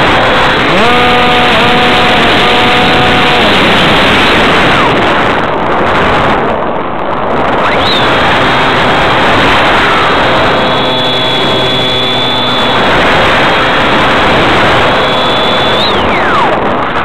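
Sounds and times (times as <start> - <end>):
electric motor whine: 0.0 - 5.2, 7.6 - 17.0
wind rush over microphone: 0.0 - 17.0.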